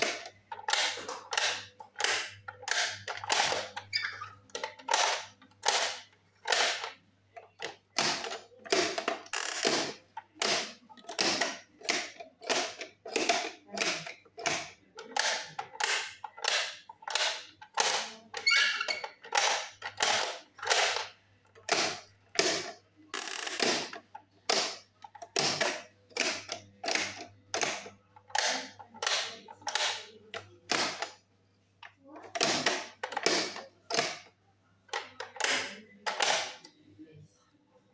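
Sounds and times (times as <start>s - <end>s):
plastic toys clicking and snapping: 0.0s - 31.2s, 31.8s - 36.8s.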